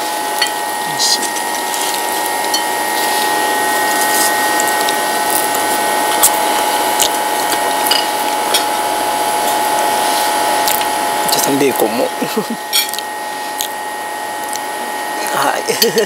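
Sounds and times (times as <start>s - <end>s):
mechanical whirring with high hum: 0.0s - 16.0s.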